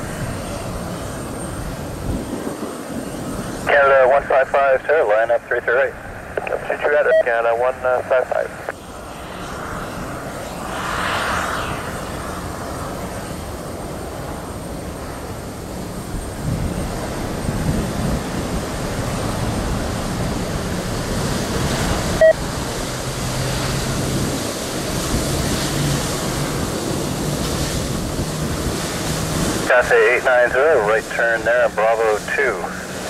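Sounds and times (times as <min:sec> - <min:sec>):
jet engine rushing noise: 0:00.0 - 0:33.0.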